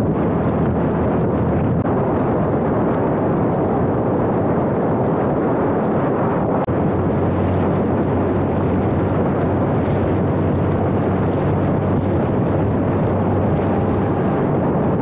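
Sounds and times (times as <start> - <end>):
motorcycle engine hum: 0.0 - 15.0
wind rushing over microphone: 0.0 - 15.0.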